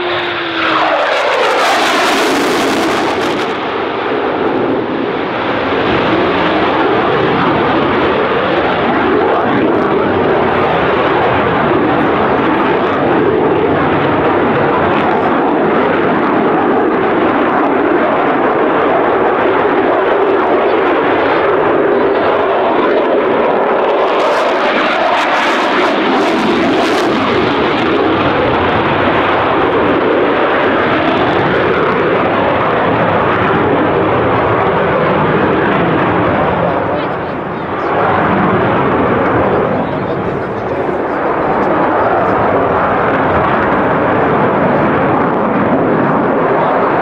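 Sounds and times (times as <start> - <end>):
jet engines roaring overhead: 0.0 - 47.0.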